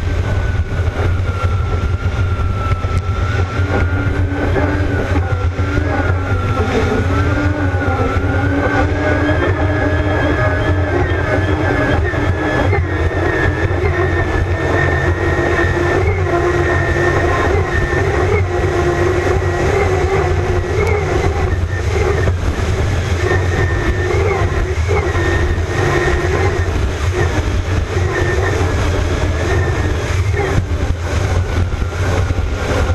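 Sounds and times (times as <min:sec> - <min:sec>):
powerboat turbine engines: 0:00.0 - 0:32.9.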